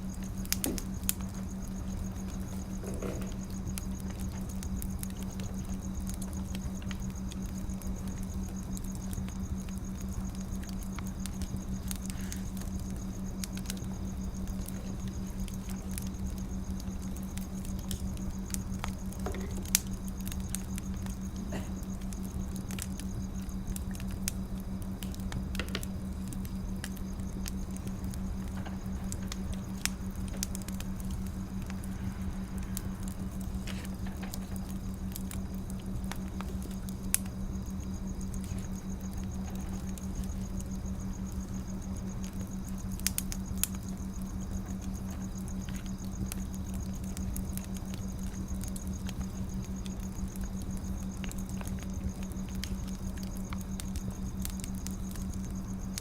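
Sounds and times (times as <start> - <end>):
soft hiss: 0.0 - 56.0
steady low hum: 0.0 - 56.0
wood fire crackling: 0.0 - 56.0.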